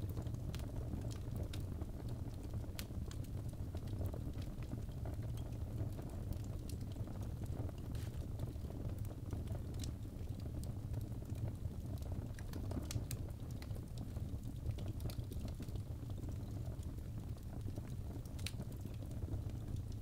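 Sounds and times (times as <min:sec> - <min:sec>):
fire burning in fireplace: 0:00.0 - 0:20.0
wood crackling and popping: 0:00.0 - 0:20.0.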